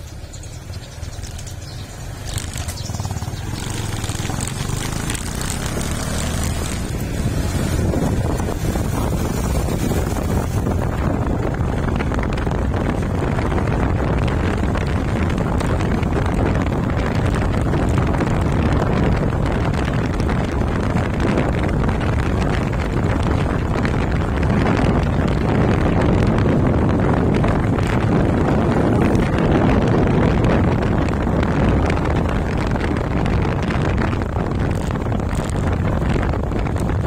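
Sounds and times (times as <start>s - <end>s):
motorcycle engine: 0.0s - 37.0s
tyre noise on concrete road: 0.0s - 37.0s
wind buffeting microphone: 0.0s - 37.0s.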